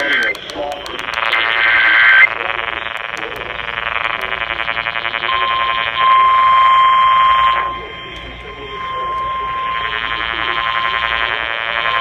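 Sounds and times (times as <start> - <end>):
warbling digital data tones: 0.0 - 12.0.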